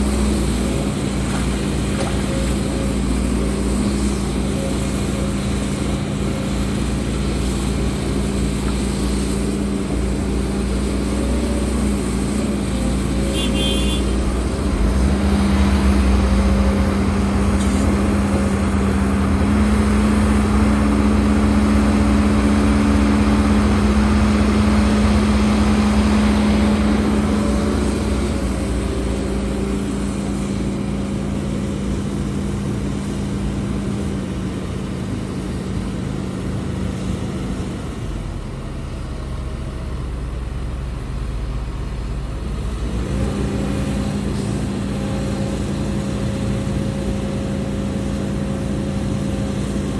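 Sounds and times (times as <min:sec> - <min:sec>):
excavator diesel engine under load: 0:00.0 - 0:49.9.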